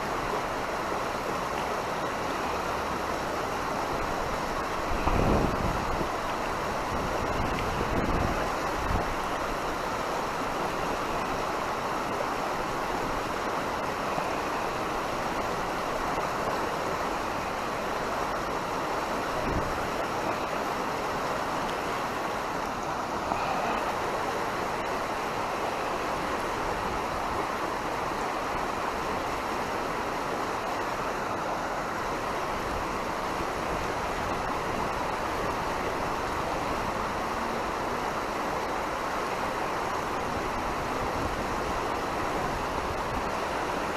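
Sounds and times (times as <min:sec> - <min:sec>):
river water over rapids: 0:00.0 - 0:43.9.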